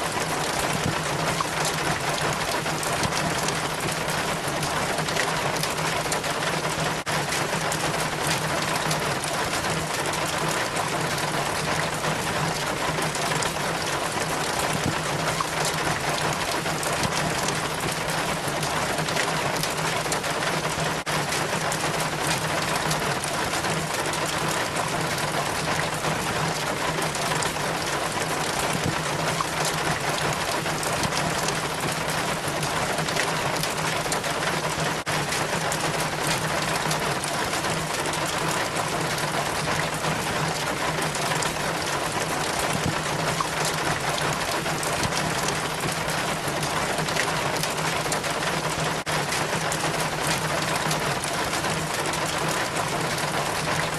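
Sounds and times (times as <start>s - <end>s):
rainwater trickling down rain chain: 0.0s - 53.9s.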